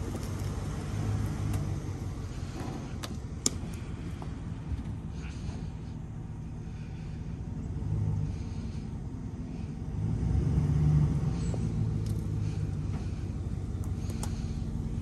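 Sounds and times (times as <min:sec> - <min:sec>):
dump truck engine rumbling: 0:00.0 - 0:15.0.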